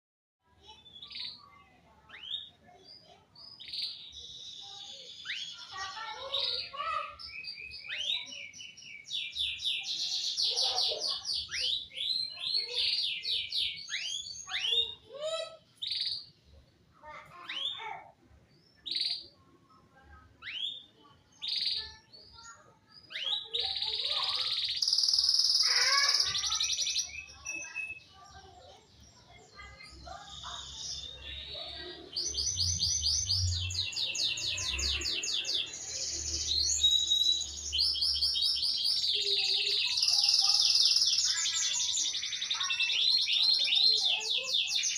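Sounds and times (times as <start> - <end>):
canary singing: 0.7 - 19.5, 20.2 - 44.9.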